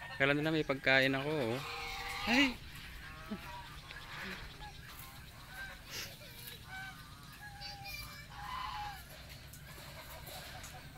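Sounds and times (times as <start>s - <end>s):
fowl calling: 0.9s - 10.9s.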